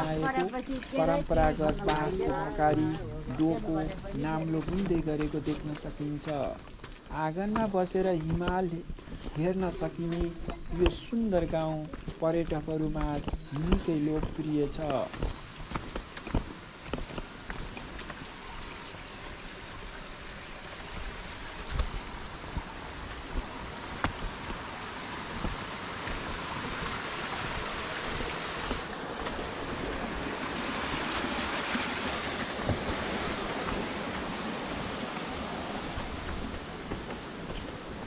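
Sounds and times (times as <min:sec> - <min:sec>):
stream running over rocks: 0:00.0 - 0:38.0.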